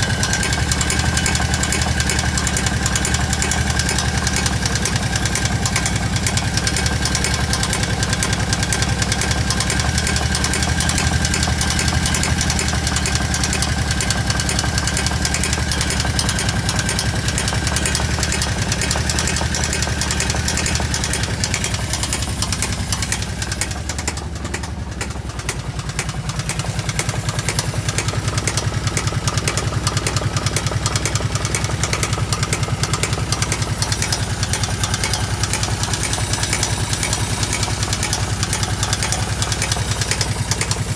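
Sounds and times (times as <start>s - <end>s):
engine idling with knocking: 0.0s - 40.9s.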